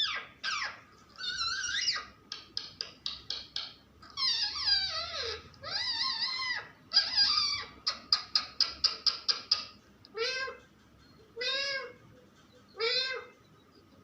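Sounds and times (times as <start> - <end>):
parrot calling: 0.0 - 10.6, 11.2 - 13.4.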